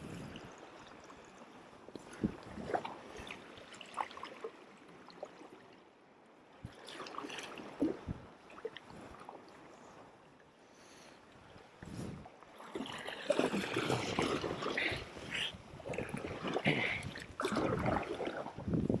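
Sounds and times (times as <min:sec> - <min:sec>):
paddle splashes and drips: 0:00.0 - 0:18.9.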